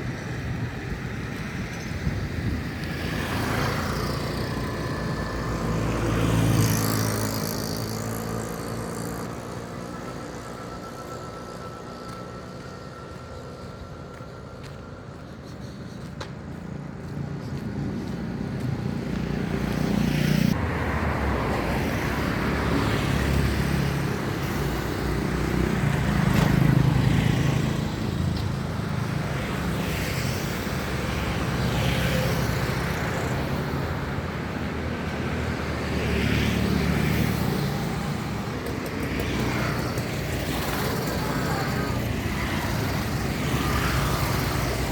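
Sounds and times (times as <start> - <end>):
road traffic passing: 0.0 - 44.9.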